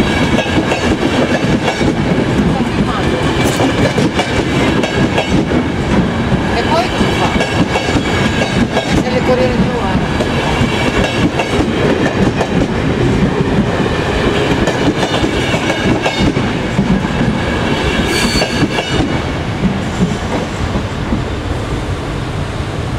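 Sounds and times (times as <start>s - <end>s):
train wheels clattering: 0.0s - 21.3s.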